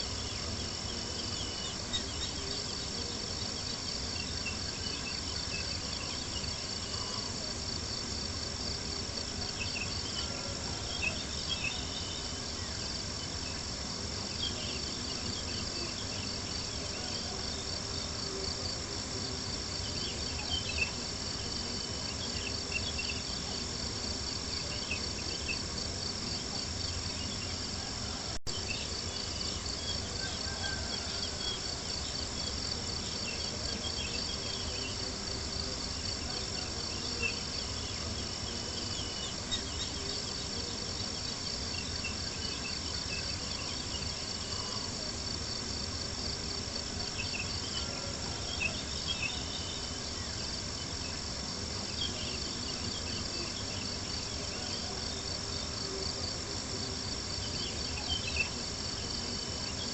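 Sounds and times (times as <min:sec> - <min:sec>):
crickets chirping: 0:00.0 - 0:59.9
low background hiss: 0:00.0 - 0:59.9.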